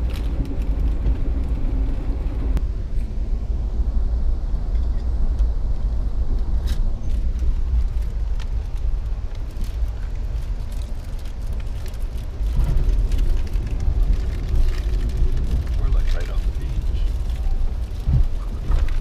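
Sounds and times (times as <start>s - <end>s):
train coach rumbling on rails: 0.0s - 19.0s.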